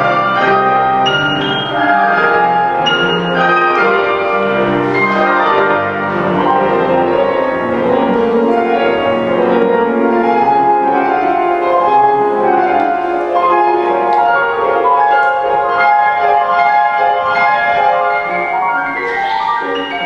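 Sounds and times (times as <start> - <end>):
digital keyboards playing tango: 0.0 - 20.0
grand piano: 0.0 - 20.0.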